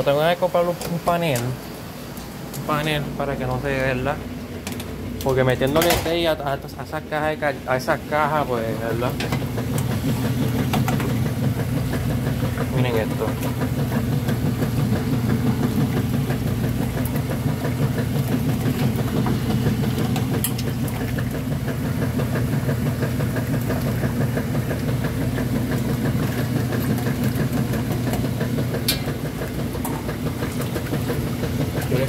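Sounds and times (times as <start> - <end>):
washing machine motor hum: 0.0 - 32.0
water churning: 0.0 - 32.0.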